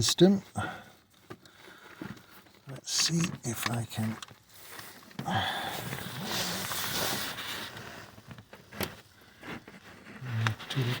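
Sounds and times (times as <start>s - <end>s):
rustling scraping handling noise: 1.0s - 11.0s.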